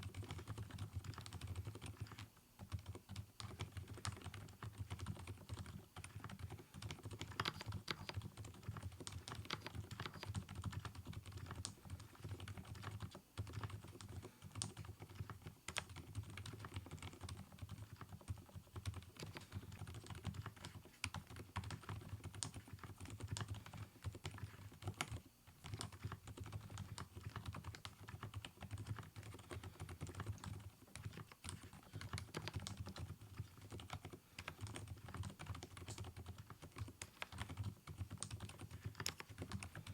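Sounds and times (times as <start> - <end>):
quiet keyboard typing: 0.0 - 39.9.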